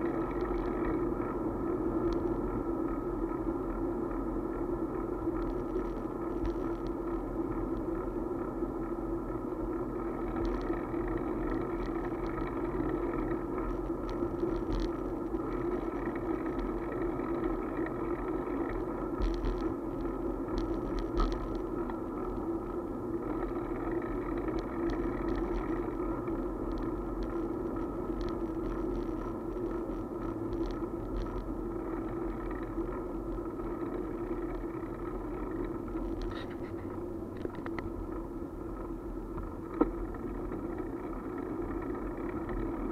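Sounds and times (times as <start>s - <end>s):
bicycle rolling on pavement: 0.0s - 42.9s.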